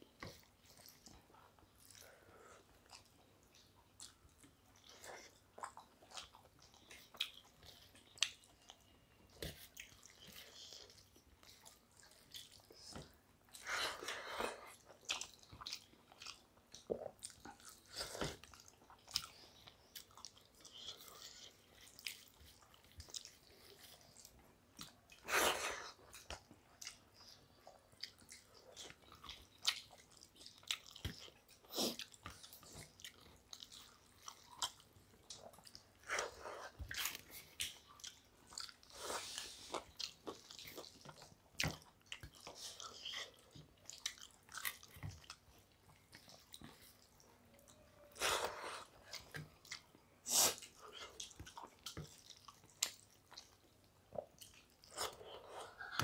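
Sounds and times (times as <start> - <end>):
people chewing wetly: 0.0 - 56.0.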